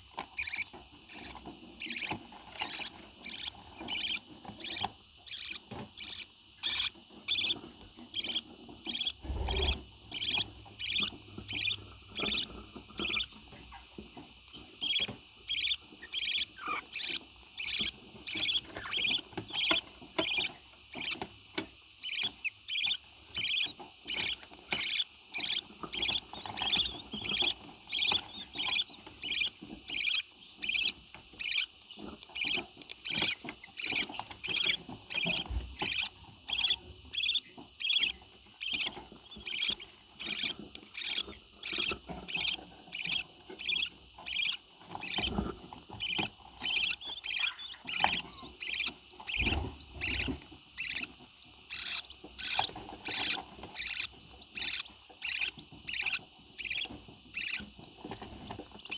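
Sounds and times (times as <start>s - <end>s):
parrot chirping: 0.1s - 13.8s, 14.5s - 21.3s, 22.0s - 58.9s.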